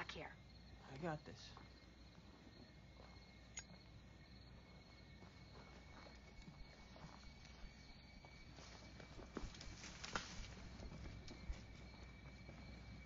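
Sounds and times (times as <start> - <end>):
crickets chirping: 0.0 - 13.0
soft footsteps: 1.5 - 13.0.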